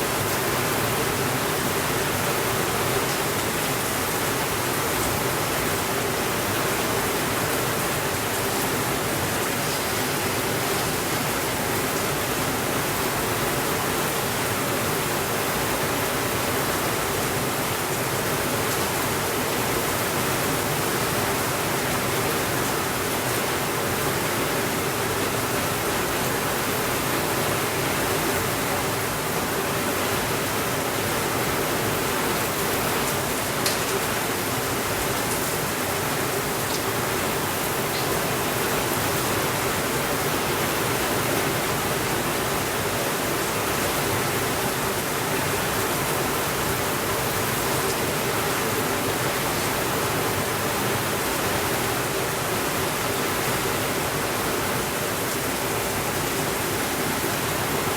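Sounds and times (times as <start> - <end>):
rain hiss: 0.0 - 57.9.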